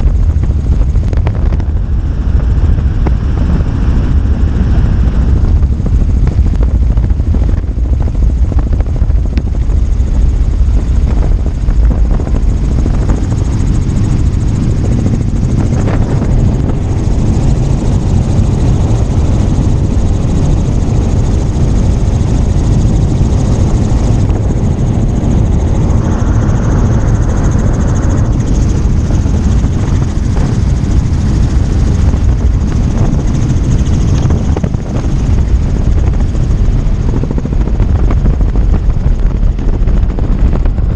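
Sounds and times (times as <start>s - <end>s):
helicopter rotor and engine noise: 0.0s - 40.9s.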